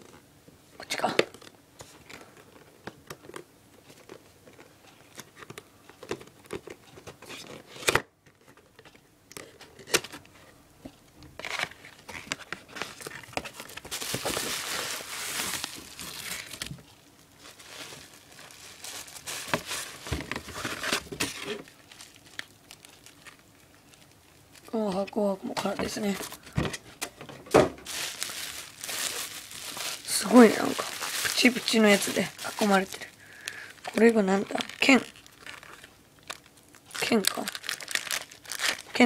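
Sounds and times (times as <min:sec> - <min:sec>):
packaging crinkling and tearing: 0:01.0 - 0:10.3, 0:11.4 - 0:26.6, 0:27.8 - 0:39.0.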